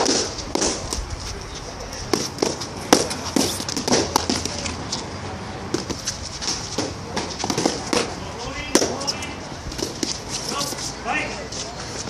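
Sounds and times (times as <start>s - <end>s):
fighting sticks clacking: 0.0s - 5.1s, 5.7s - 11.0s.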